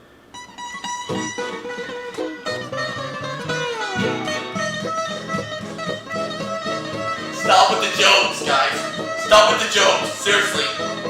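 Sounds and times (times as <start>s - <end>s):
plucked guitar music: 0.3s - 11.0s.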